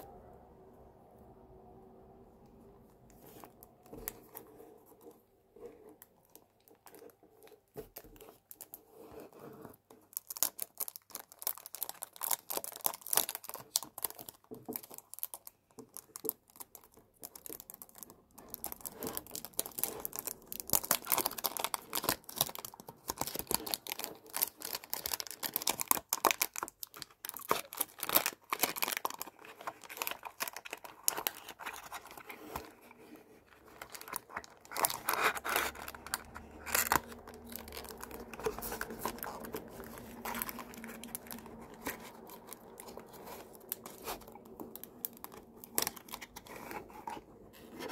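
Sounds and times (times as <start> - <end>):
cellophane crinkling and tearing: 5.9 - 47.9.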